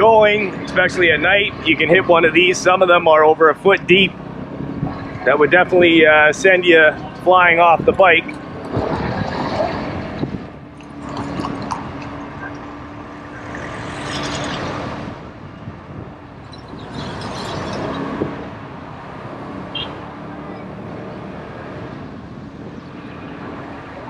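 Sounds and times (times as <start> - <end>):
motorbike engine hum: 0.0 - 24.0
road noise: 0.0 - 24.0
rushing wind: 0.0 - 24.0.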